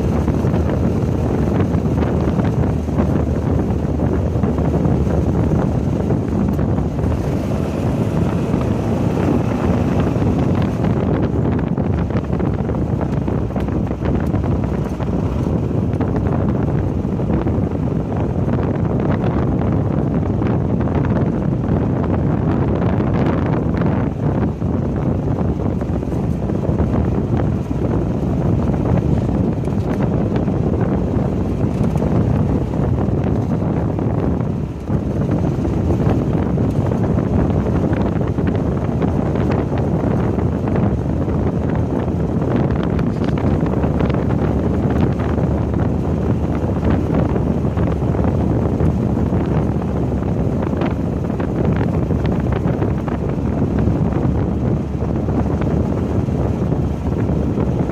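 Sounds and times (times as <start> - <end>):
low vehicle rumble: 0.0 - 57.9
race car engine: 0.0 - 57.9
wind buffeting microphone: 0.0 - 57.9.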